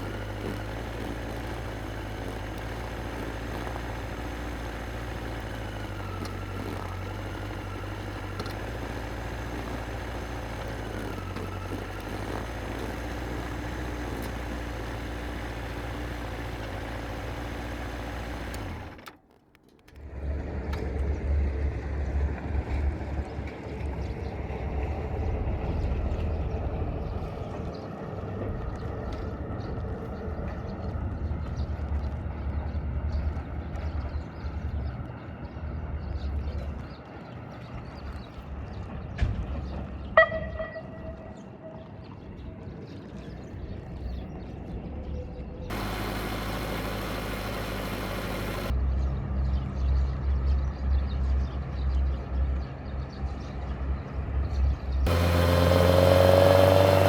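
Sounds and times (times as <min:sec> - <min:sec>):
motorcycle engine rumbling: 0:00.0 - 0:41.8, 0:43.7 - 0:48.8, 0:55.1 - 0:57.0.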